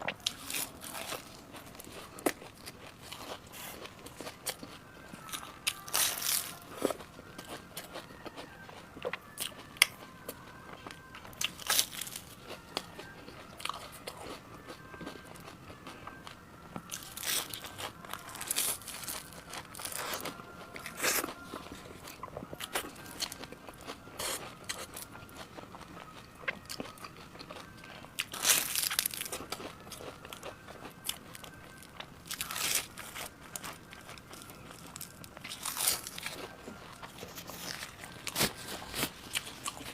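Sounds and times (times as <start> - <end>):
crunchy bites: 0.0 - 8.4, 10.7 - 14.4, 16.7 - 39.9
crackly chewing: 0.0 - 39.9.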